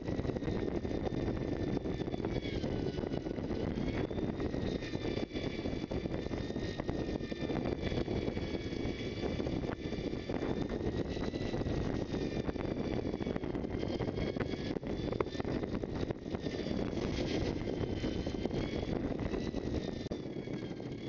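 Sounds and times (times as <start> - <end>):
faint wavering high whines: 0.0 - 21.0
wind: 0.0 - 21.0.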